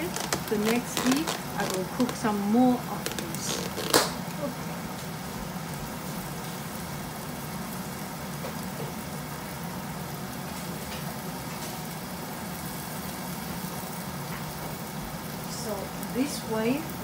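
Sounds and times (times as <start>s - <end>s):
gas stovetop hum and hiss: 0.0s - 17.0s.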